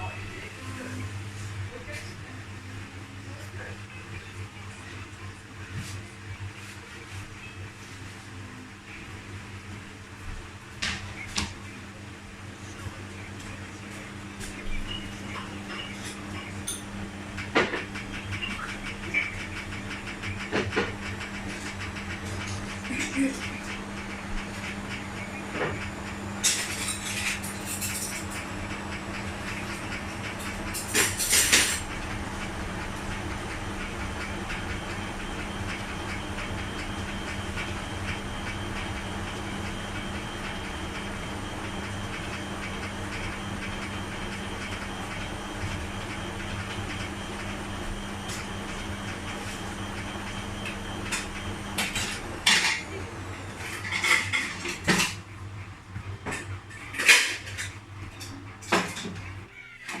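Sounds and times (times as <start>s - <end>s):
washing machine motor hum: 0.0s - 60.0s.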